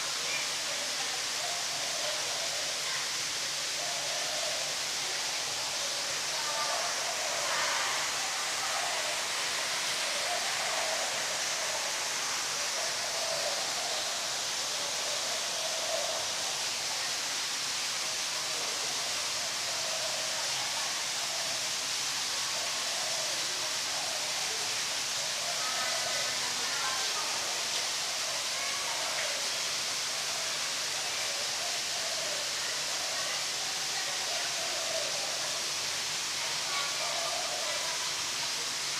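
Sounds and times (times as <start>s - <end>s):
faint voices: 0.0s - 38.9s.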